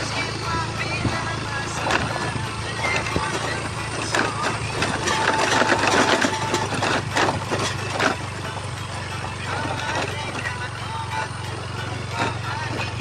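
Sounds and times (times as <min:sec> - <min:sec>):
rattles and knocks: 0:00.0 - 0:13.0
vehicle engine running: 0:00.0 - 0:13.0.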